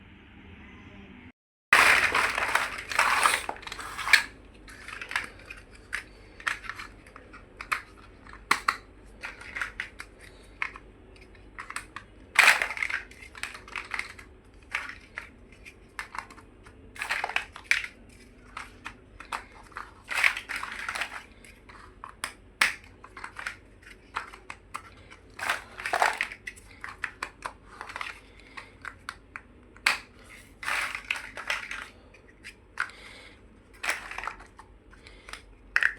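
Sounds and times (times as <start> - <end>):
plastic building blocks clicking: 1.8 - 35.9.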